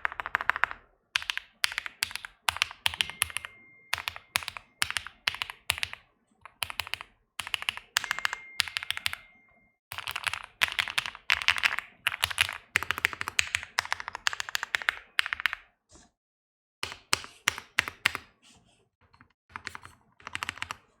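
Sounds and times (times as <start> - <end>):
mechanical keyboard typing: 0.0 - 15.7, 16.8 - 18.3, 19.5 - 21.0.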